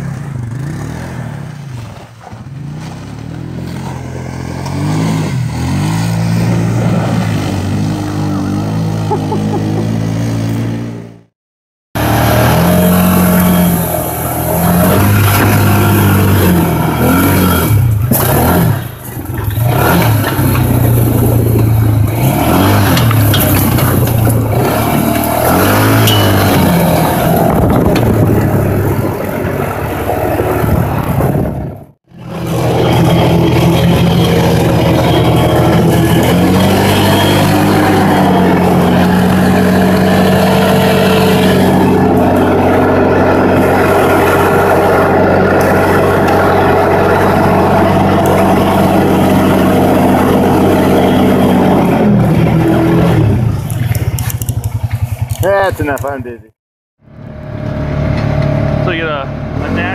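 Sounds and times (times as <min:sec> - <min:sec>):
off-road vehicle engine revving: 0:00.0 - 0:11.3, 0:12.0 - 0:59.9.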